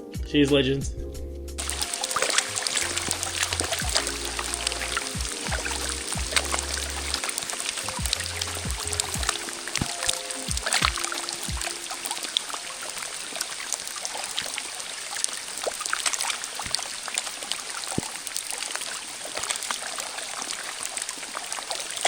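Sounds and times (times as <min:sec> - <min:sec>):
creek water running: 0:01.6 - 0:22.0
water drips and splashes: 0:01.6 - 0:22.0.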